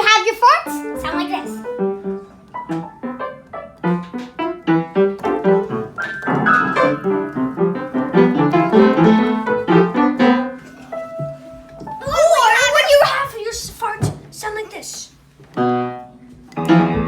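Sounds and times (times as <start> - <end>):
piano playing lively melody: 0.0 - 13.6, 15.5 - 17.0.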